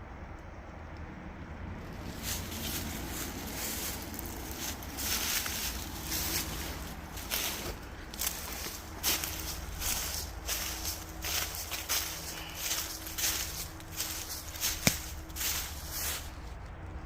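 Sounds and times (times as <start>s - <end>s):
low steady rumble: 0.0s - 17.0s
footsteps on rough ground: 1.8s - 16.7s.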